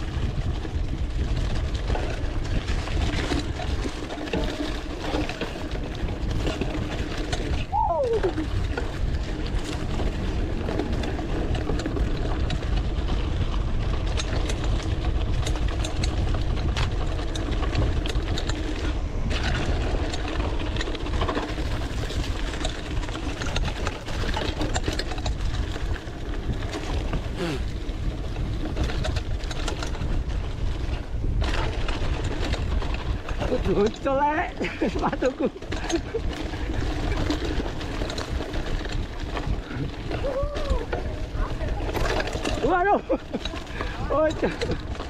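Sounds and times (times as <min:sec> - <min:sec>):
bike rattling over bumps: 0:00.0 - 0:45.0
bike tyres rolling over dirt: 0:00.0 - 0:45.0
wind on microphone: 0:00.0 - 0:45.0.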